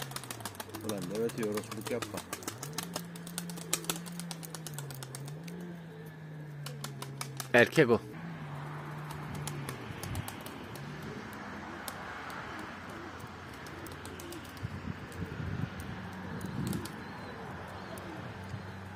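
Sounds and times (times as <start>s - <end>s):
pigeons cooing: 0.0s - 18.9s.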